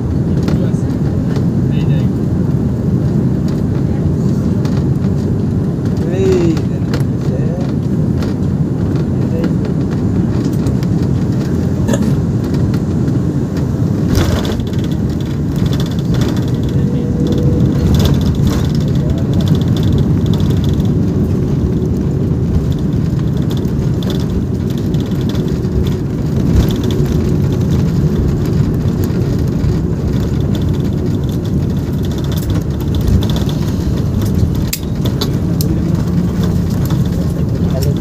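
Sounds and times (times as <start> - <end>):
airliner engines and rushing air: 0.0 - 38.0
light rattles: 0.2 - 38.0.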